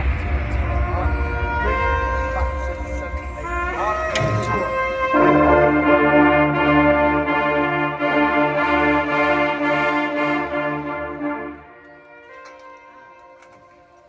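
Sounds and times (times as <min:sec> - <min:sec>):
brass section sustained chord: 0:00.0 - 0:14.0.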